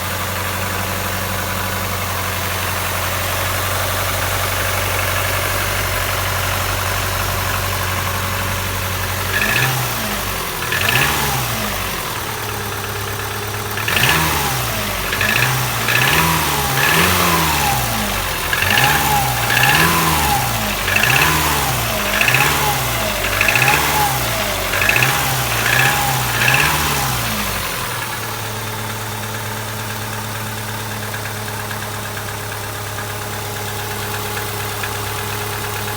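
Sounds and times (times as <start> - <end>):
car engine idling and revving: 0.0 - 35.9
engine knock: 0.0 - 35.9.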